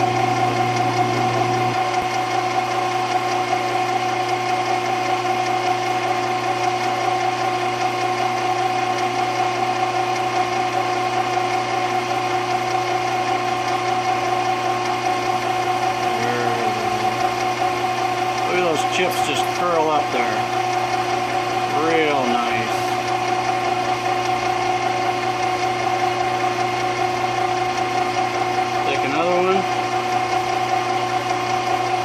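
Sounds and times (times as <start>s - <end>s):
lathe bit cutting brass: 0.0s - 32.0s
metal lathe whine and hum: 0.0s - 32.0s.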